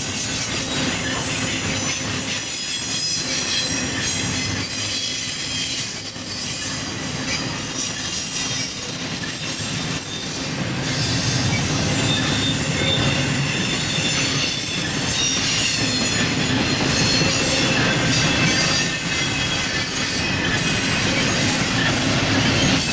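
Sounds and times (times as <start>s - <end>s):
train wheels rumbling on rails: 0.0s - 22.9s
high-pitched wheel squeal: 2.6s - 22.9s.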